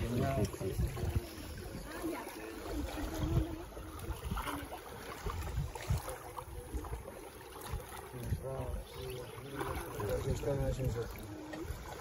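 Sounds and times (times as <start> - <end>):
wind buffeting microphone: 0.0 - 11.1
faint voices: 0.0 - 12.0
water splashing around a boat: 0.0 - 12.0.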